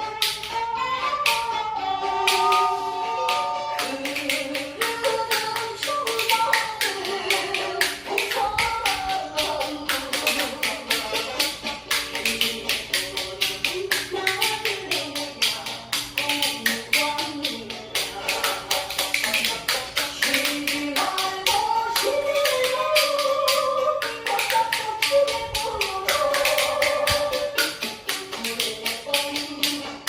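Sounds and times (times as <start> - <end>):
spoons clicking together: 3.8 - 29.8.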